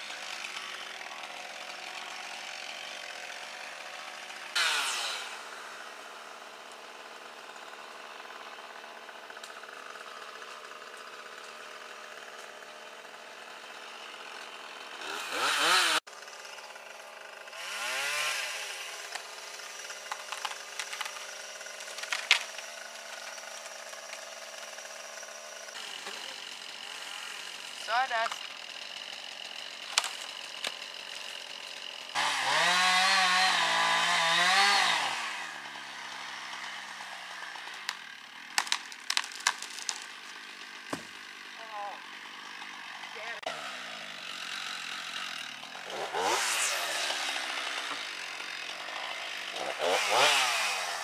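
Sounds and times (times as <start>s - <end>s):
chainsaw idling and revving: 0.0s - 51.0s.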